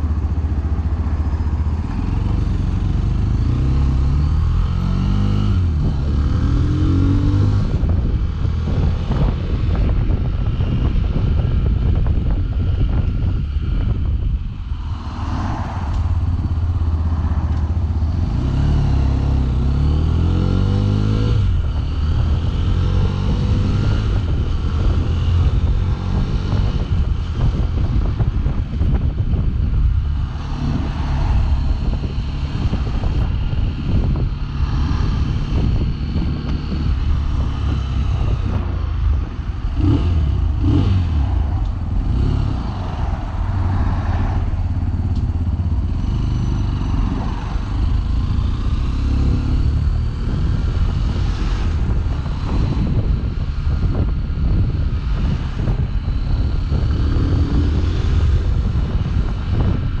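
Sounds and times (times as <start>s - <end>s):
motorcycle engine running: 0.0s - 14.9s, 16.0s - 43.0s, 44.4s - 60.0s.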